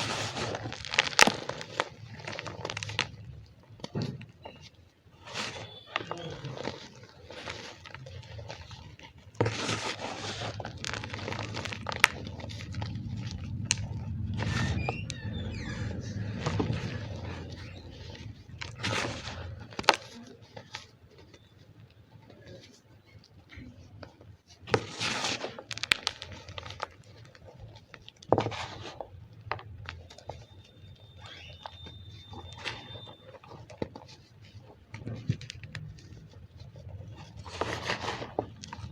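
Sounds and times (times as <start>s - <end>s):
chalk crunching and crumbling: 0.0s - 38.9s.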